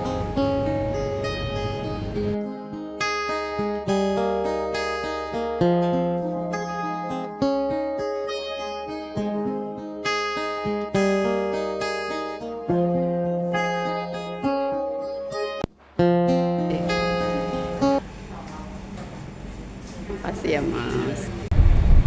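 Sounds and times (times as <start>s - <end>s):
acoustic guitar chords: 0.0s - 18.4s.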